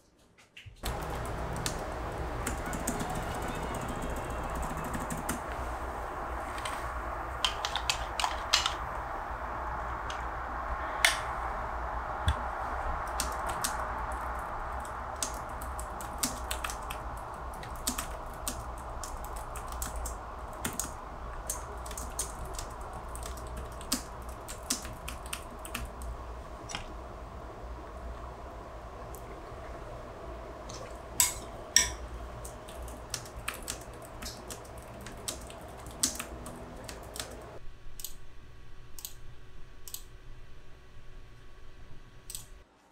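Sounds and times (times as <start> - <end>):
steady background hum: 0.1 - 42.9.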